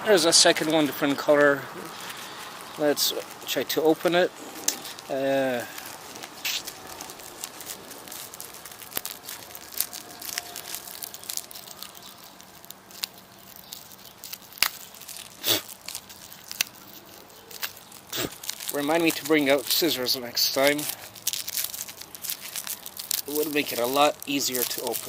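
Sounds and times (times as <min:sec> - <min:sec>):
plastic packaging crinkling: 0:00.1 - 0:25.0.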